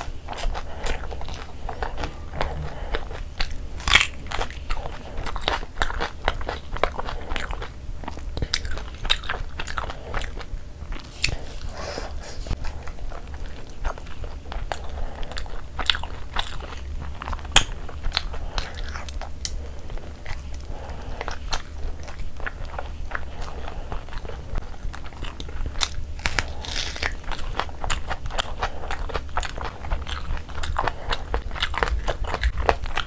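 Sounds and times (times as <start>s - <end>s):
person chewing and biting food: 0.0s - 33.0s.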